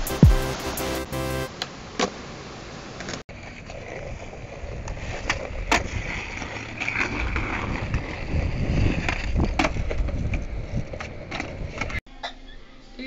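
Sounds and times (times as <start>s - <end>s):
skateboard wheels rolling on asphalt: 1.5s - 12.0s.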